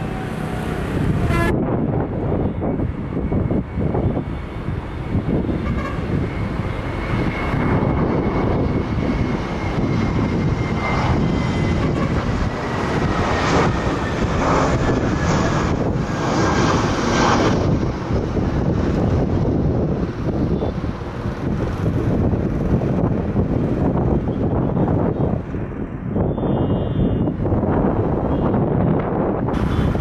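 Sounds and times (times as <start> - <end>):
jet airliner flying low: 0.0 - 30.0.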